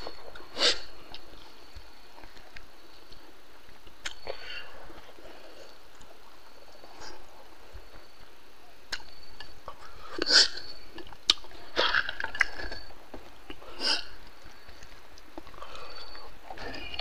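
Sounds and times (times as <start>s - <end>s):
man chewing and eating: 0.0s - 17.0s.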